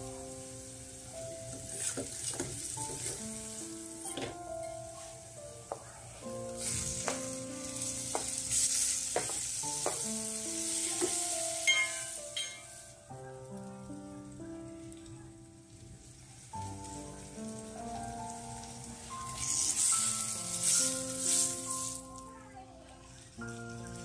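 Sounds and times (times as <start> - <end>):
food sizzling in hot oil: 0.0 - 24.0
soft background music: 0.0 - 24.0.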